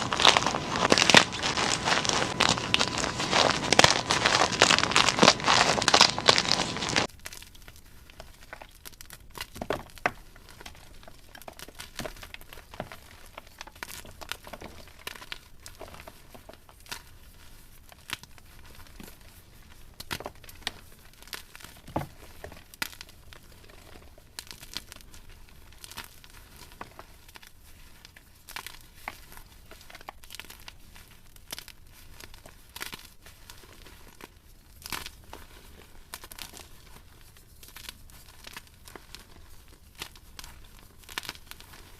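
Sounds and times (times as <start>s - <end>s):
chalk being crushed and crumbled: 0.0s - 41.9s.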